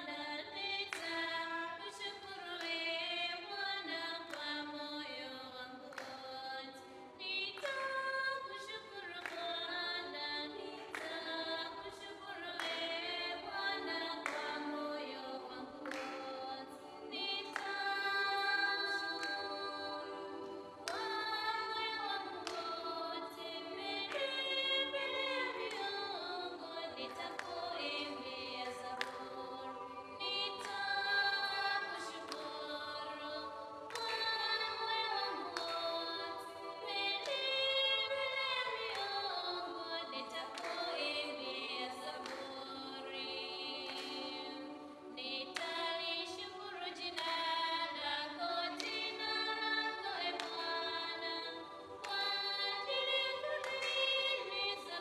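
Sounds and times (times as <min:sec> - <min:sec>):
rhythmic handclaps: 0:00.0 - 0:55.0
women singing a hymn: 0:00.0 - 0:55.0.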